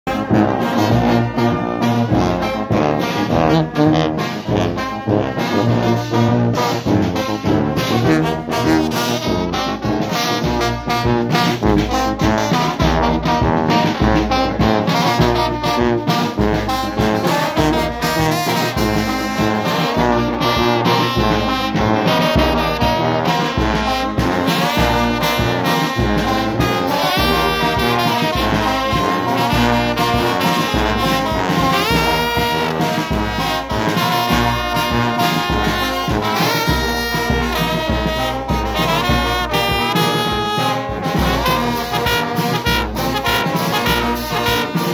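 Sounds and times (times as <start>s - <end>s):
brass band playing: 0.0s - 44.9s
trombones: 0.0s - 44.9s.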